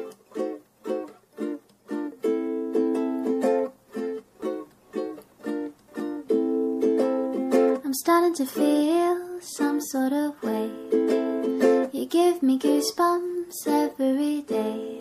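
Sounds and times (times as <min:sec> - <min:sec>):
ukulele plucked chords: 0:00.0 - 0:15.0.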